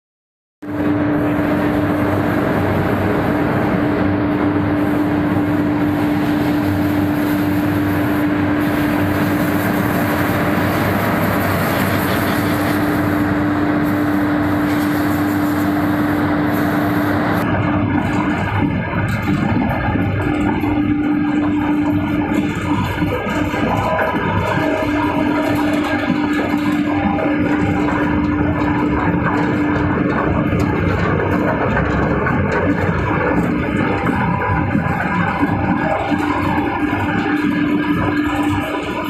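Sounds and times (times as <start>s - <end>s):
industrial machinery drone: 0.6s - 39.0s.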